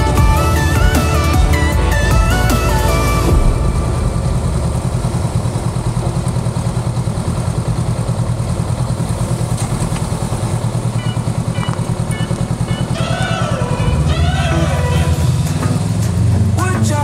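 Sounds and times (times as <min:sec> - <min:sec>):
motorcycle engine low revs: 0:00.6 - 0:16.8.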